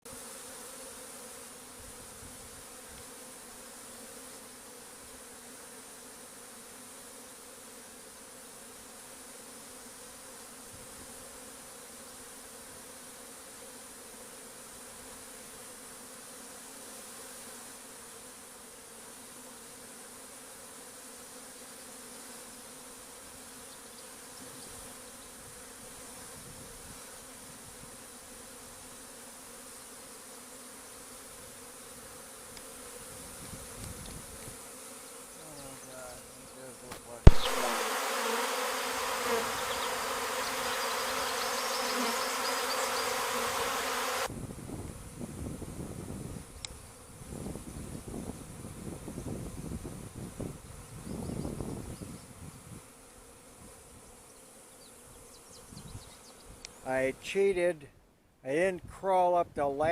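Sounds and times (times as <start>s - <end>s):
bees buzzing: 0.1s - 57.1s.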